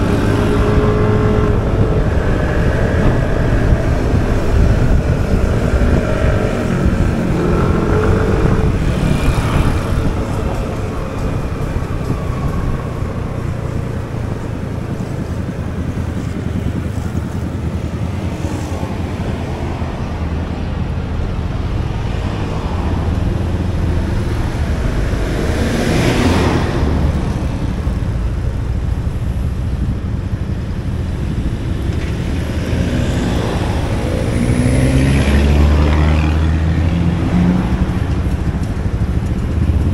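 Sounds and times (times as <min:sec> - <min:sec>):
road and wind noise: 0:00.0 - 0:39.9
scooter engine: 0:00.0 - 0:39.9
vehicles passing: 0:00.0 - 0:39.9.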